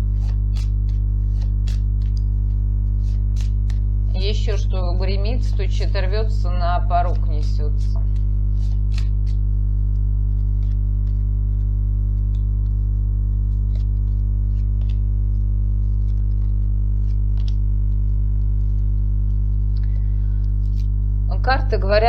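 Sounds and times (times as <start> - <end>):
steady low drone: 0.0 - 22.0.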